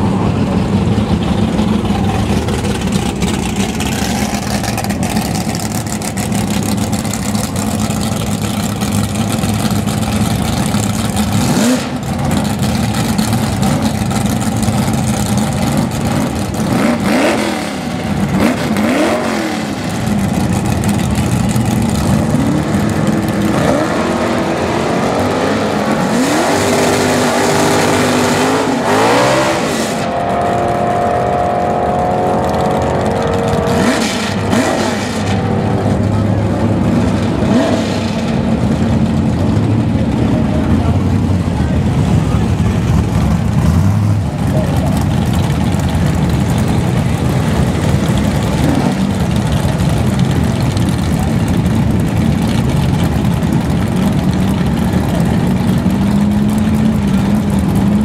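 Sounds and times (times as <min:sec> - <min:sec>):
drag car engines revving: 0:00.0 - 0:58.0
race car engine at full throttle: 0:00.0 - 0:58.0.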